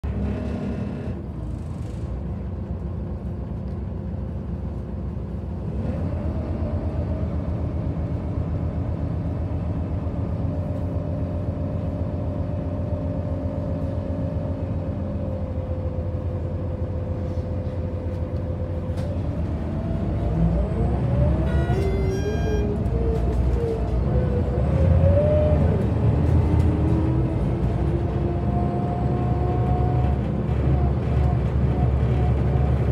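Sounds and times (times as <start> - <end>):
bus engine idling: 0.0 - 32.9
engine whine: 0.0 - 32.9.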